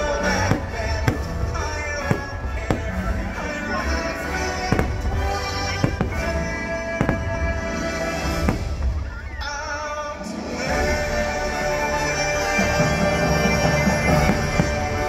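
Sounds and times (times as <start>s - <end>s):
fireworks bangs: 0.0s - 10.2s, 13.1s - 15.0s
loud show music: 0.0s - 15.0s.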